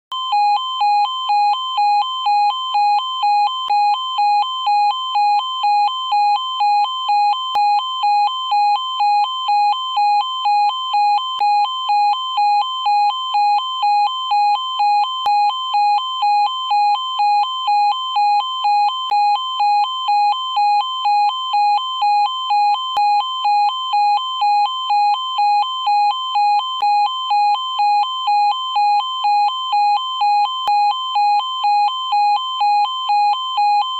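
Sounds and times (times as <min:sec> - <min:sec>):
two-tone electronic alarm: 0:00.1 - 0:33.9.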